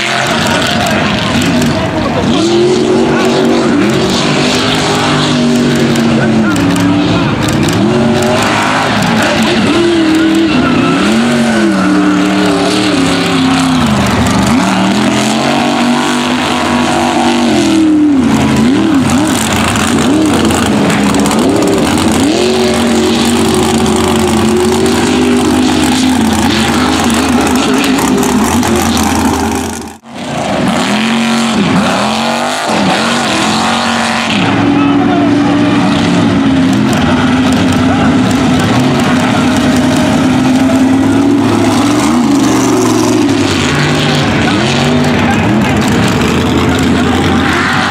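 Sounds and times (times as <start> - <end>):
truck engines revving hard: 0.0 - 47.9.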